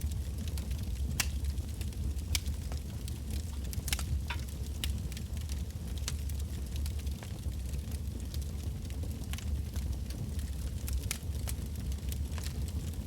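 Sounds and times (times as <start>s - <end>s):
campfire logs crackling and popping: 0.0s - 13.0s
low rumble of flames: 0.0s - 13.0s.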